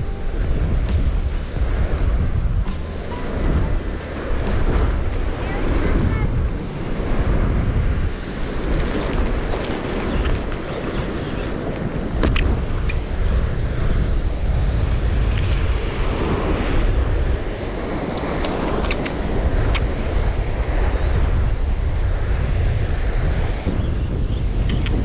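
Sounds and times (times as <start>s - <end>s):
ocean waves breaking on rocks: 0.0s - 25.0s
wind buffeting microphone: 0.0s - 25.0s.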